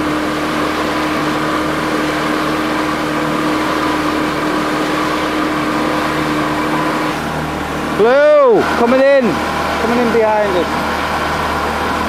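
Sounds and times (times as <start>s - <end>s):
boat engine humming: 0.0s - 12.0s
wash of noise: 0.0s - 12.0s.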